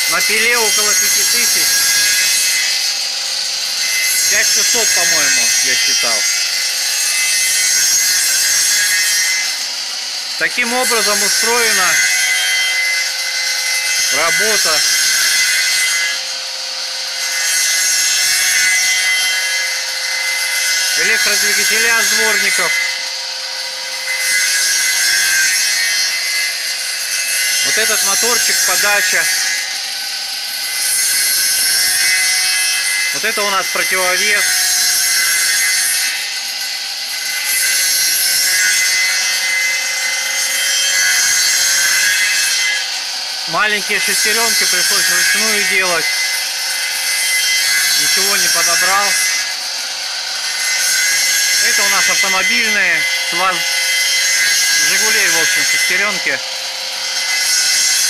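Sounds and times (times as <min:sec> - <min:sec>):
saw blade rasping through wood: 0:00.0 - 0:58.0.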